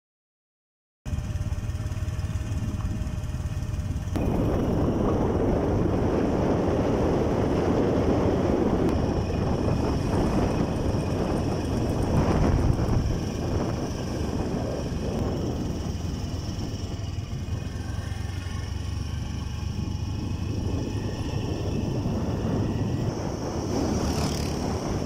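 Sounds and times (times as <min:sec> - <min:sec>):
motorcycle engine: 0:01.1 - 0:25.0
wind rushing over microphone: 0:03.8 - 0:25.0.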